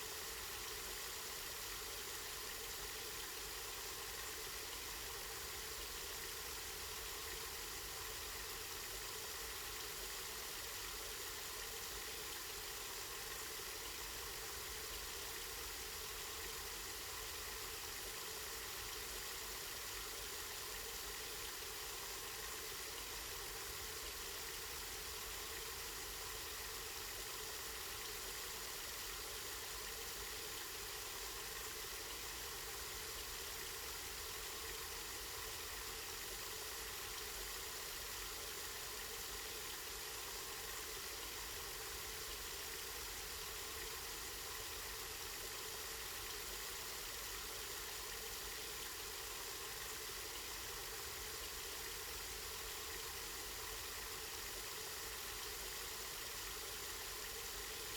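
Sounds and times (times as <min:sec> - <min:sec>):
spring water flowing: 0:08.9 - 0:57.9.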